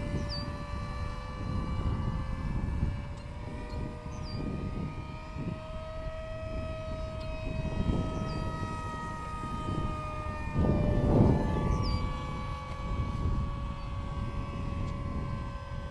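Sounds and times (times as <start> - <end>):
model plane motor whine: 0.0 - 15.9
wind rumble on microphone: 0.0 - 15.9.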